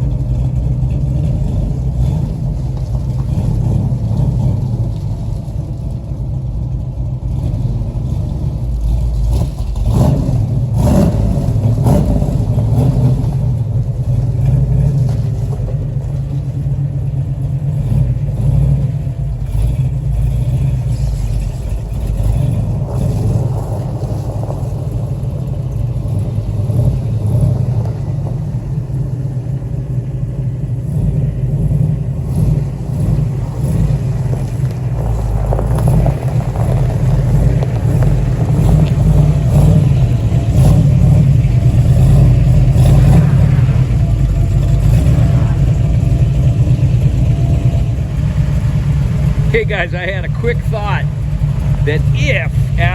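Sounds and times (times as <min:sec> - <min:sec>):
car engine rumbling and revving: 0:00.0 - 0:52.9.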